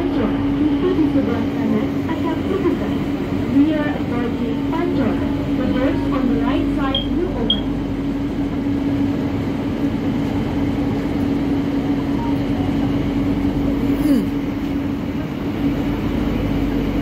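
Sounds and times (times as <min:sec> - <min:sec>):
faint passenger voices: 0:00.0 - 0:08.4, 0:11.0 - 0:17.0
train running rumble: 0:00.0 - 0:17.0.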